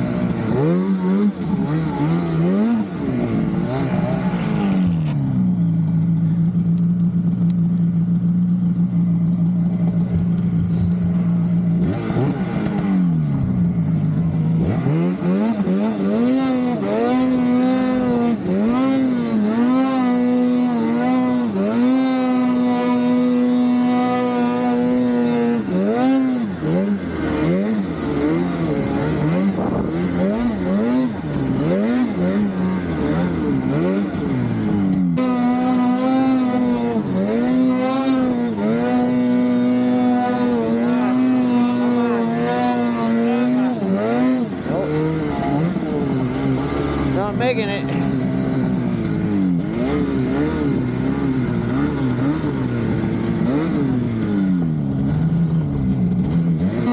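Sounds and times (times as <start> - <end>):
snowmobile engine revving: 0.0 - 56.9.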